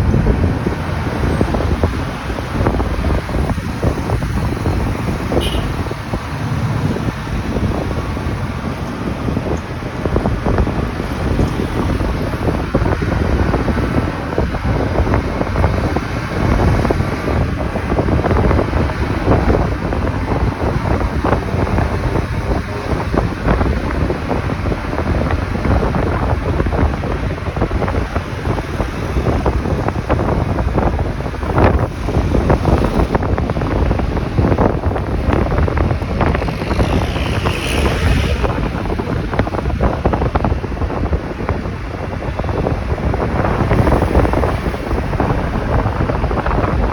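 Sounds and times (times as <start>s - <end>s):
motorcycle engine and road noise: 0.0s - 46.9s
wind buffeting microphone: 0.0s - 46.9s.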